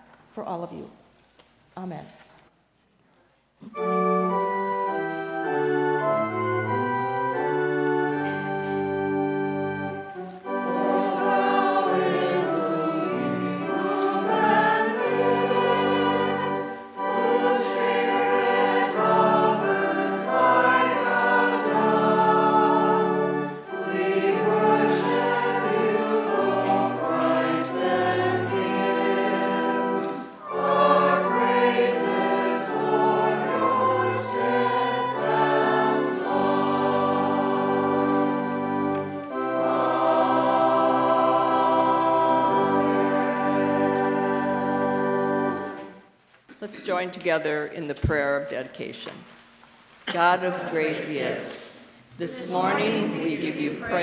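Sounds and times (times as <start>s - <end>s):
church choir singing: 3.8s - 46.2s, 50.2s - 54.0s.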